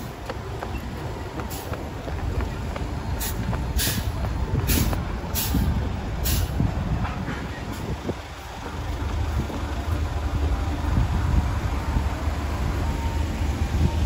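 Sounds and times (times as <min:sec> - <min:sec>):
diesel truck engine rumble: 0:00.0 - 0:14.0
road traffic: 0:00.0 - 0:14.0.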